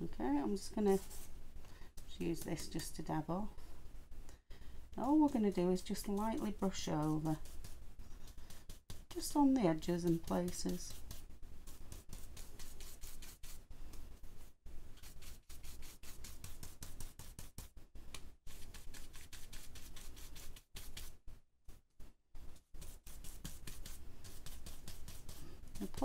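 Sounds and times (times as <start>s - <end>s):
brush strokes on plastic stencil: 0.3s - 3.7s, 4.9s - 21.8s, 22.4s - 26.0s.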